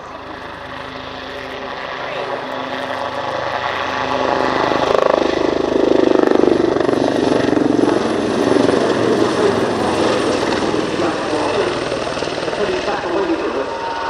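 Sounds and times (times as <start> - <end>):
faint turbine whine: 0.0 - 14.0
helicopter engine noise: 0.0 - 14.0
helicopter rotor chop: 0.0 - 14.0.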